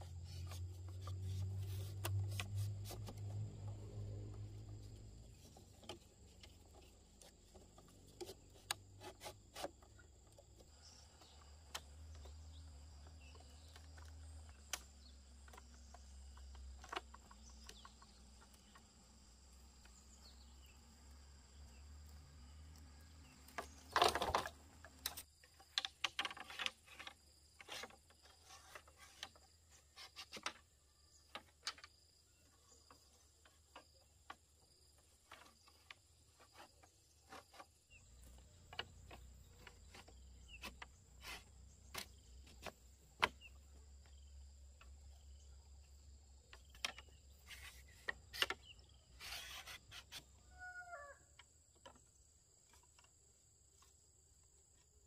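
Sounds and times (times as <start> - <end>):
bamboo strips clicking and knocking: 0.0 - 50.6, 51.4 - 53.9.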